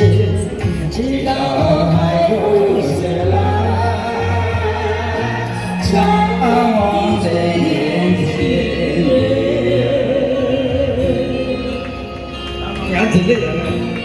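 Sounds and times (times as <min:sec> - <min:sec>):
karaoke backing music: 0:00.0 - 0:14.0
person singing: 0:00.0 - 0:14.0.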